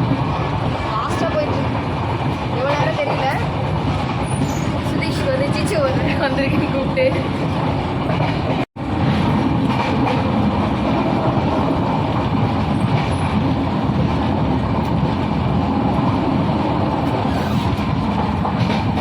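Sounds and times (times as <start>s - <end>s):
train coach rattling: 0.0s - 19.0s
train wheels on rails: 0.0s - 19.0s.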